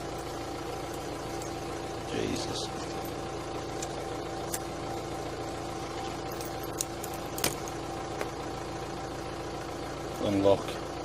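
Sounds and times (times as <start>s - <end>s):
steady hum with held tones: 0.0s - 11.0s.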